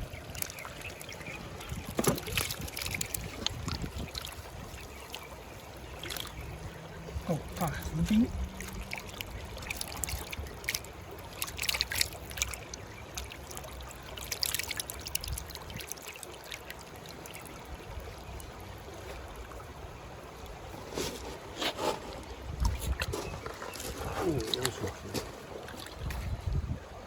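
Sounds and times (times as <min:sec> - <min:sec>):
small splashes: 0:00.0 - 0:19.7, 0:20.4 - 0:26.4
creek water trickling: 0:00.0 - 0:27.0.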